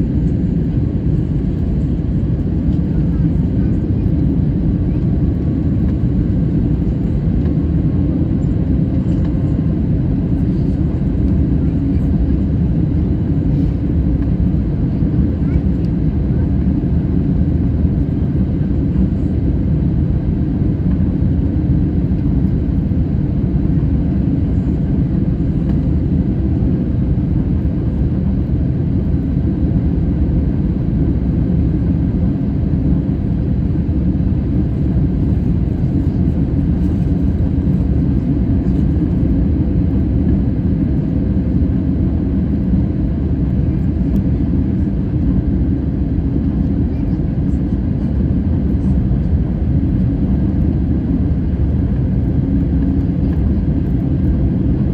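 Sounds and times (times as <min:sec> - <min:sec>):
jet engine rumble: 0:00.0 - 0:54.9.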